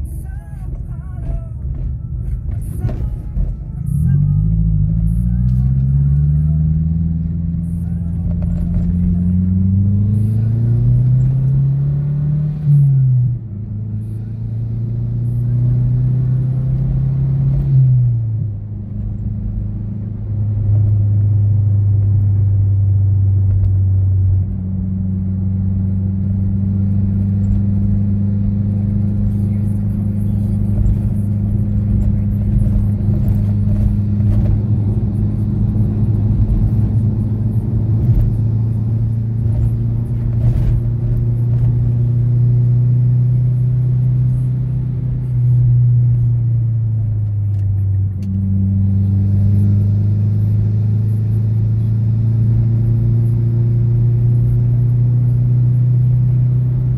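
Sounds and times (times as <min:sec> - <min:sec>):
car engine droning: 0:00.0 - 0:56.9
tyre and road rumble: 0:00.0 - 0:56.9.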